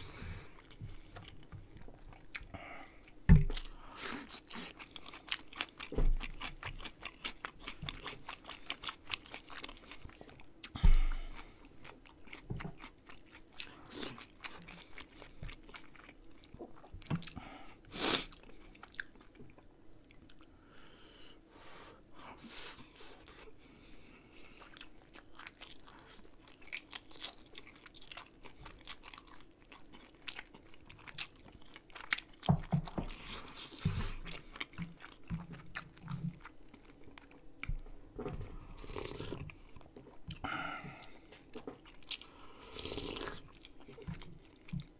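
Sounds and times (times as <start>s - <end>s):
person chewing and crunching: 0.0s - 17.4s, 18.1s - 20.5s, 24.3s - 44.9s.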